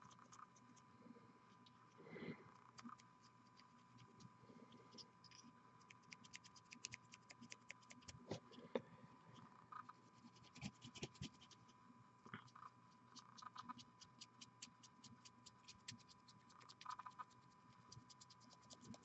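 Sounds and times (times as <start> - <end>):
paintbrush scratchy ticks: 0.0 - 0.9, 2.6 - 4.3, 4.9 - 8.5, 9.4 - 19.0.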